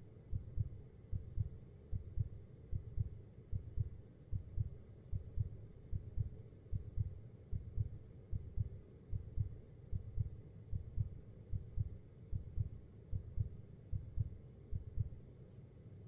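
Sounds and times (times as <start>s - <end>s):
heartbeat thumps: 0.3s - 15.2s.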